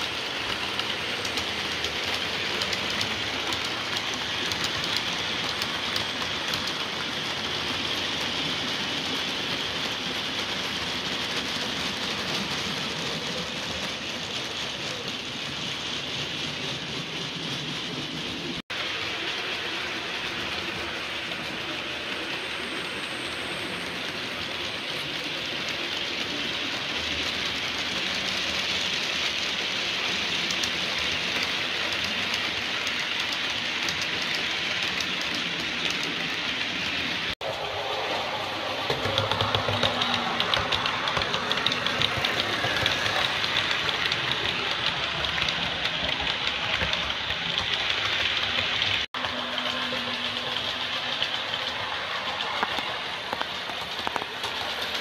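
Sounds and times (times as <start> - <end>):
model train wheels rattling: 0.0 - 55.0.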